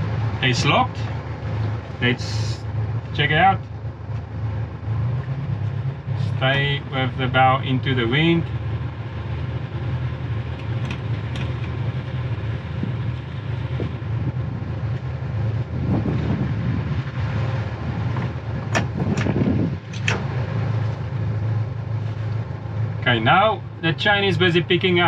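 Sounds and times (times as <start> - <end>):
boat diesel engines droning: 0.0 - 25.0.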